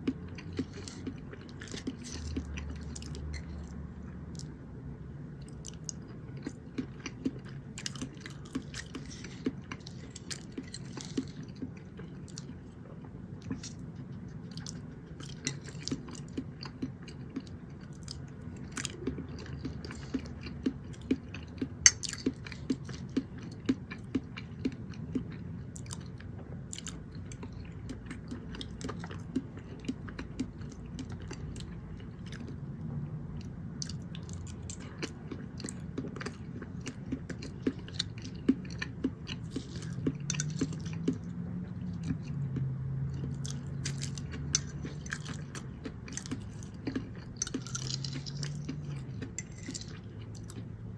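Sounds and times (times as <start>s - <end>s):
chewing food close up: 0.0s - 4.6s, 5.4s - 50.9s.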